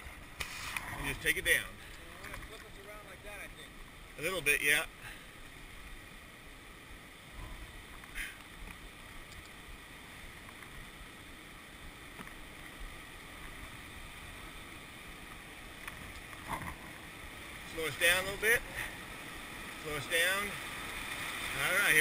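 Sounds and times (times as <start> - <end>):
faint rush of river water: 0.0 - 22.0.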